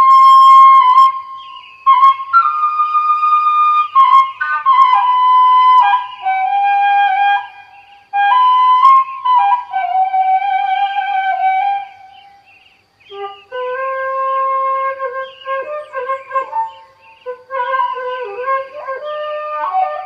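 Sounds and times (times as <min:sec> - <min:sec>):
flute playing slow melody: 0:00.0 - 0:12.4, 0:13.1 - 0:20.0.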